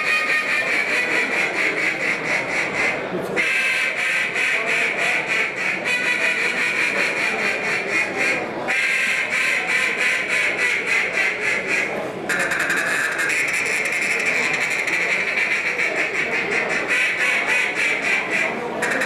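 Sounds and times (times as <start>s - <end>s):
duck call quacks: 0.0s - 19.0s.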